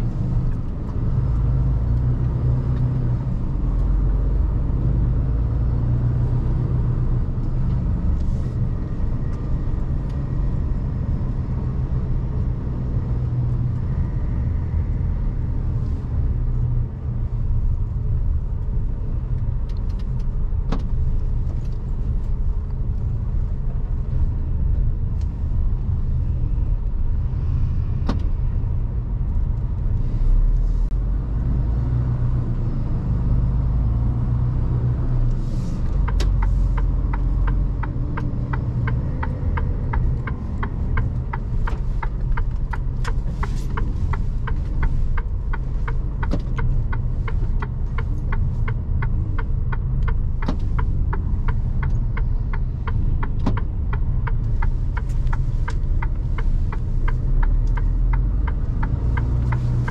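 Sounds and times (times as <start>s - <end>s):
truck engine rumble from cab: 0.0s - 59.9s.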